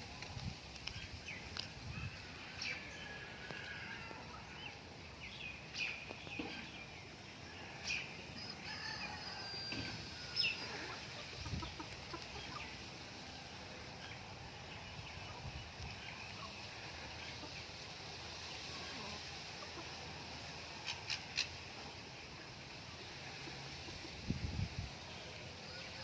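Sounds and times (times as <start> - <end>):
birds chirping: 0.8 - 23.4.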